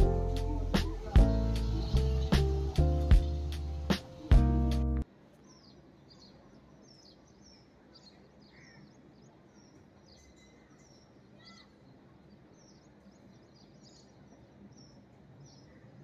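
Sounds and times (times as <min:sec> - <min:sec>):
birds chirping faintly: 0:00.0 - 0:16.0.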